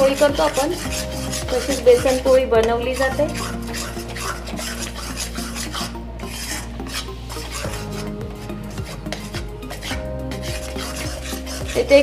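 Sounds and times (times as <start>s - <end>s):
spatula scraping metal pan: 0.0s - 12.0s.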